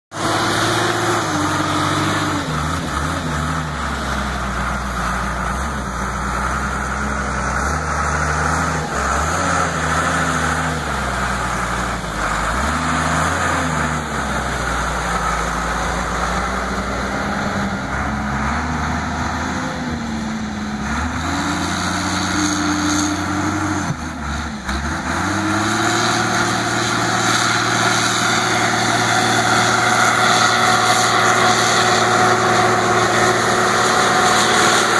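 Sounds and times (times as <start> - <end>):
loader diesel engine working: 0.1 - 34.9.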